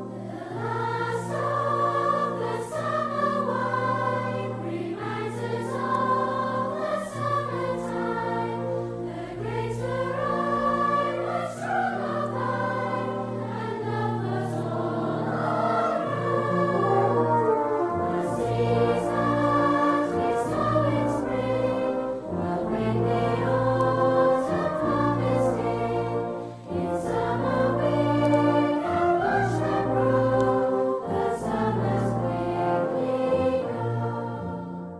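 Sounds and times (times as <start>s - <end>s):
low accompaniment: 0.0s - 34.6s
choir singing: 0.0s - 34.9s.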